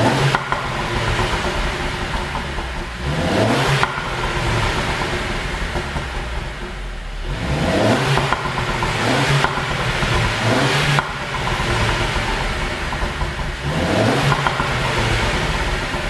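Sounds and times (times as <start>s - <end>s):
car engine revving: 0.0s - 16.0s
exhaust pops: 0.0s - 16.0s.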